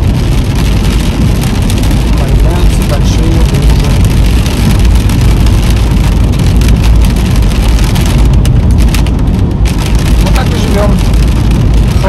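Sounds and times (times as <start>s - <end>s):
rain on car windshield: 0.0s - 12.0s
road and engine rumble: 0.0s - 12.0s.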